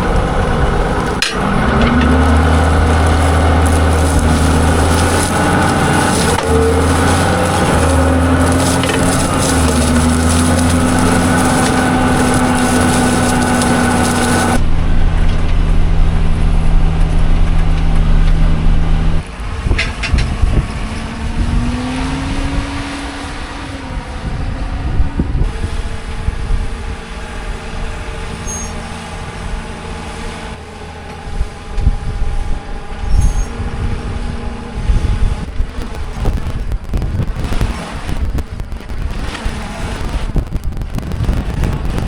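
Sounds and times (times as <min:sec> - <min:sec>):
heavy vehicle engine running: 0:00.0 - 0:42.0
machine humming: 0:00.0 - 0:42.0.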